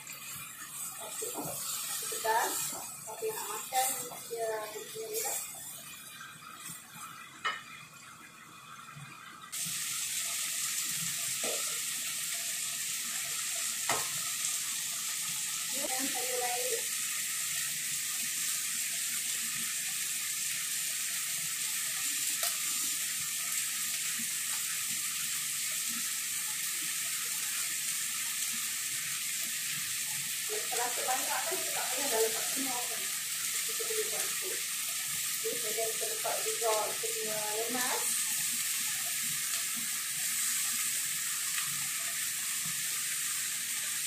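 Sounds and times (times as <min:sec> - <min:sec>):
food sizzling in a pot: 0:00.0 - 0:44.0.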